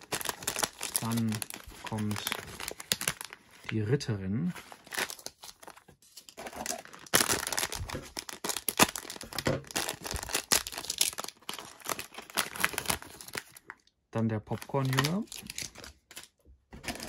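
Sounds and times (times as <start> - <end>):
foil bags crackling and tearing: 0.0 - 3.6, 4.6 - 13.7, 14.5 - 17.0.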